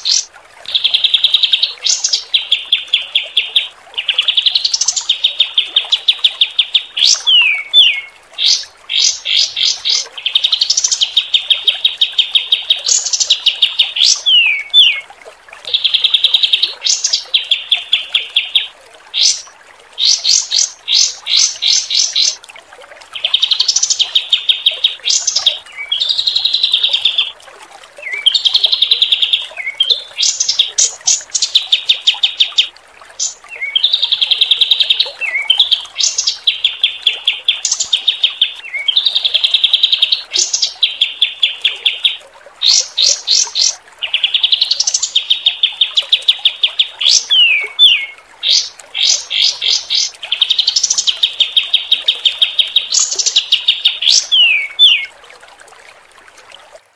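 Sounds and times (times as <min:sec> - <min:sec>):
songbird singing rapid sharp notes: 0:00.0 - 0:15.0, 0:15.7 - 0:22.4, 0:23.1 - 0:27.3, 0:28.0 - 0:55.1
faint flowing water hiss: 0:00.0 - 0:56.9.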